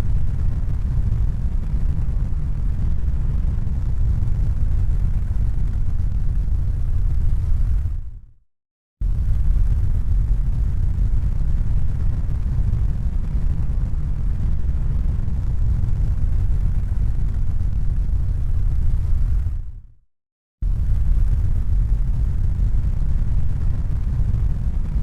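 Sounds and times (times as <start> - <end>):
steady low rumble: 0.0 - 8.3, 9.0 - 19.9, 20.6 - 25.0.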